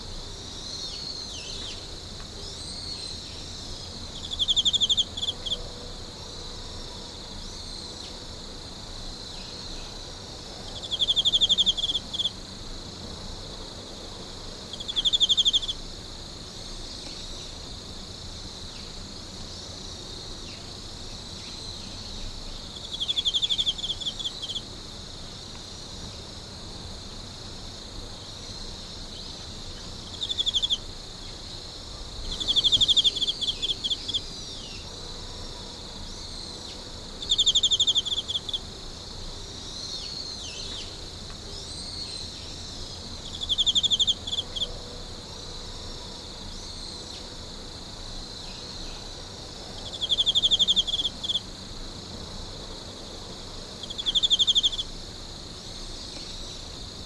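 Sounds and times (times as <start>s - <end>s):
insect trilling: 0.0s - 5.8s, 7.4s - 13.0s, 13.9s - 45.7s, 46.4s - 57.0s
night insects chorus: 0.0s - 57.0s.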